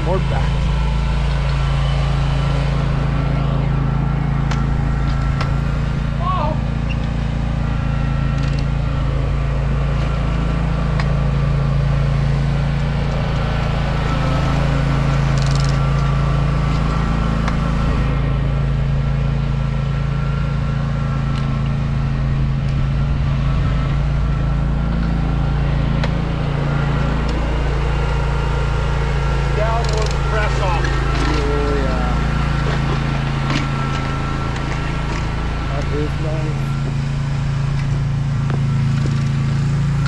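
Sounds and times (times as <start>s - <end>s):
mower engine running: 0.0s - 40.0s.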